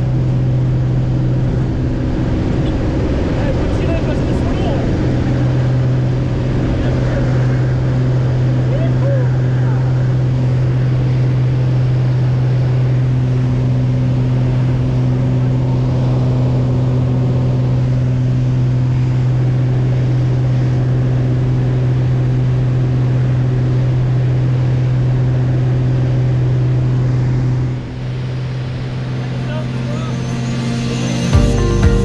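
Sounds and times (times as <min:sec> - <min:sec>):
light aircraft engine and propeller: 0:00.0 - 0:32.0.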